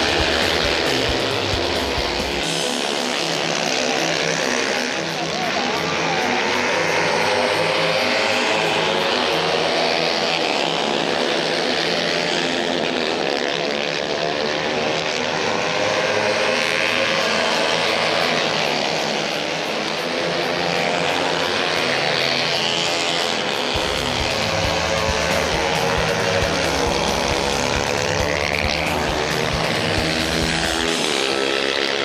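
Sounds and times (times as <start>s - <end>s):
racing motorcycle engines revving: 0.0s - 32.0s.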